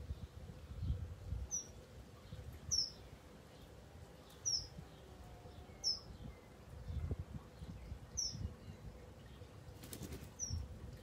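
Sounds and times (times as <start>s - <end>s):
bird chirping: 0.2s - 10.7s.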